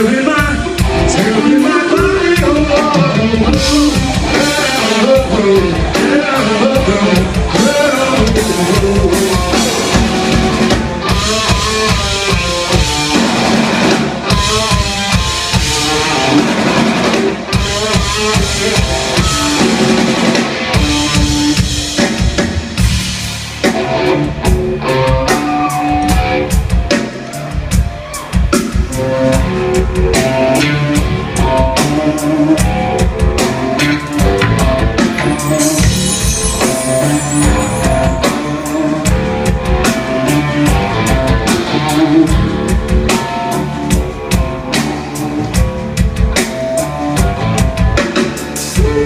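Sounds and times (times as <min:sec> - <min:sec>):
electric guitar bending notes: 0:00.0 - 0:27.3, 0:28.8 - 0:49.0
drum kit beat: 0:00.0 - 0:49.0.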